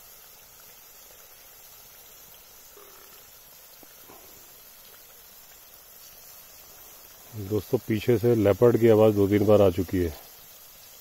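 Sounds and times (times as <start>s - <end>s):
insects hissing: 0.0s - 11.0s.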